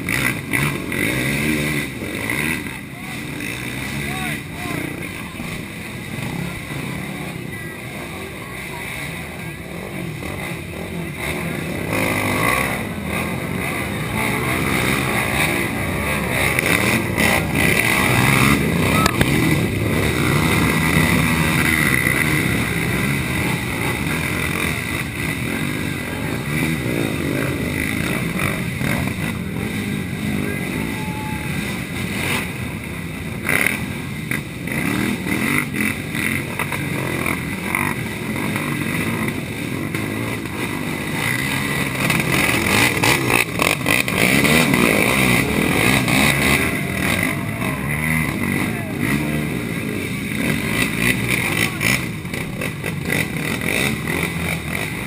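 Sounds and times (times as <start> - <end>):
crowd voices: 0.0 - 55.0
quad engines revving: 0.0 - 55.0.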